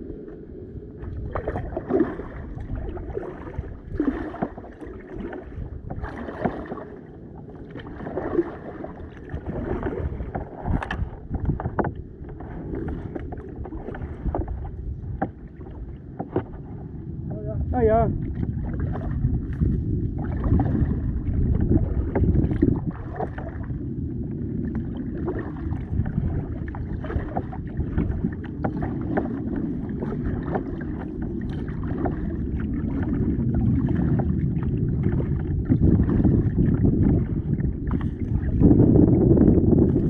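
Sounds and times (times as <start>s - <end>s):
low rumble on microphone: 0.0s - 40.0s
paddle splashes and drips: 0.0s - 40.0s.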